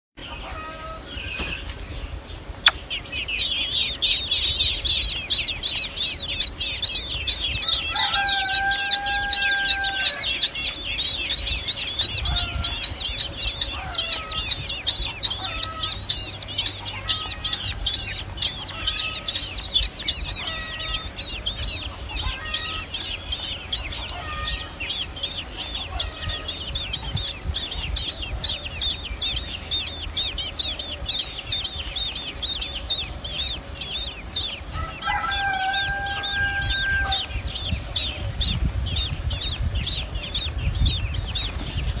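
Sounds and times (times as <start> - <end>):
nestlings cheeping: 2.6 - 42.0.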